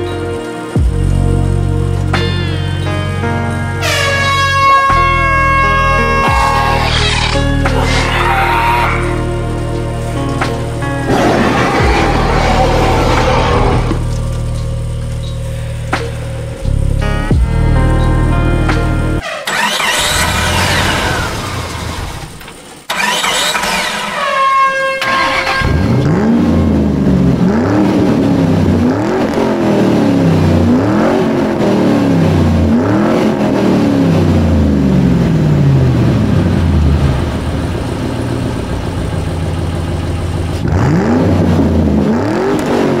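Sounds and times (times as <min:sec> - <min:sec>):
engine revving: 0:03.8 - 0:17.6, 0:19.0 - 0:24.4, 0:25.0 - 0:43.0.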